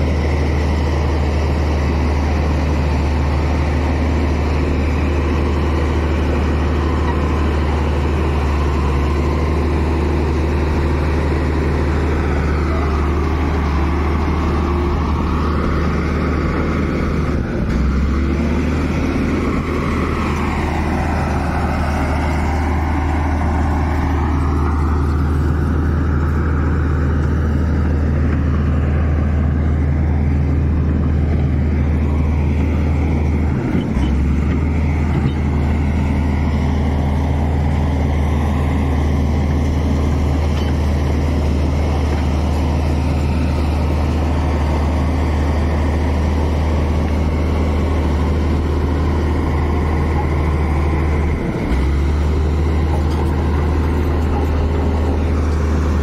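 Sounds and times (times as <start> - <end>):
blade pushing soil: 0.0 - 56.0
bulldozer diesel engine droning: 0.0 - 56.0.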